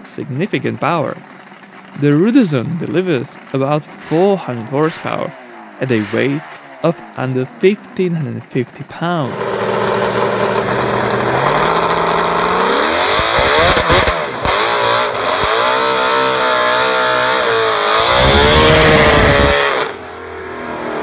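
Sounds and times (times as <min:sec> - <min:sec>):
two-stroke engine revving hard: 0:00.6 - 0:21.0.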